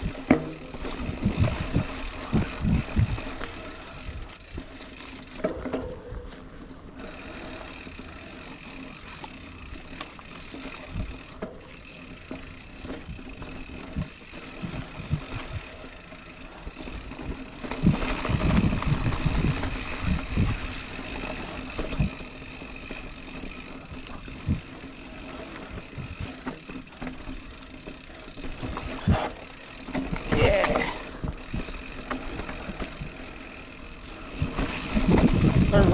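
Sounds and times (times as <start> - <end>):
bike rattling over bumps: 0.0 - 35.9
bike tyres rolling on dirt: 0.0 - 35.9.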